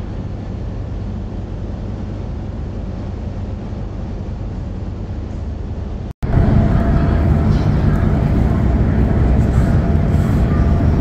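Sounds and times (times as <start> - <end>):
ferry engines humming: 0.0 - 11.0.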